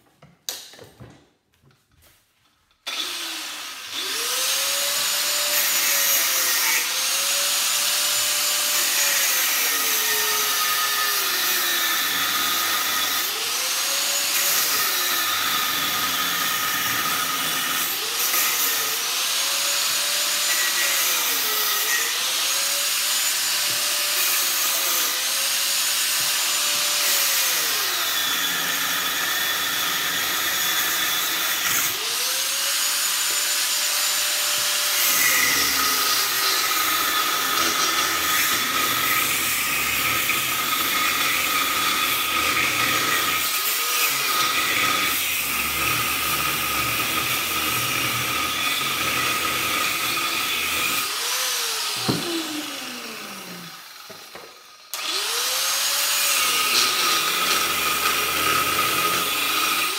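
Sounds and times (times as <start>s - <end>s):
angle grinder grinding steel: 2.8s - 59.9s.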